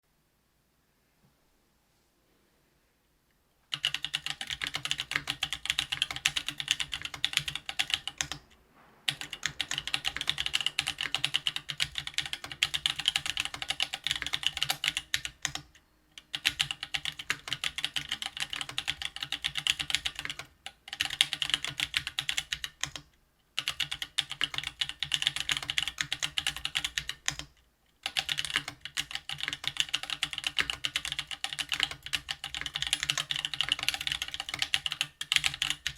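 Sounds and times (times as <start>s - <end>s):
fast typing on mechanical keyboard: 3.7s - 8.4s, 9.1s - 35.9s.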